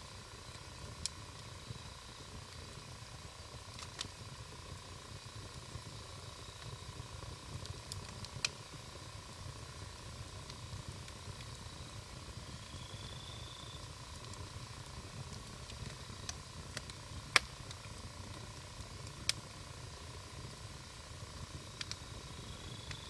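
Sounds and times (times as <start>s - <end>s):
campfire crackling: 0.1s - 23.0s.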